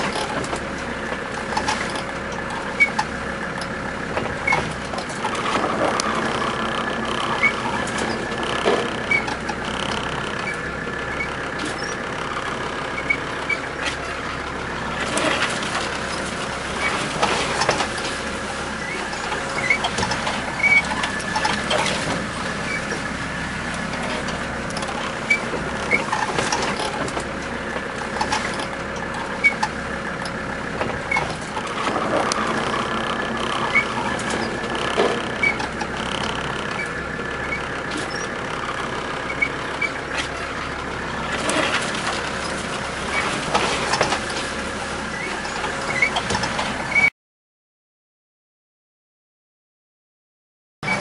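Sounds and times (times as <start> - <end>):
car engine running: 0.0 - 47.1
knocks and rattles from bumps: 0.0 - 47.1.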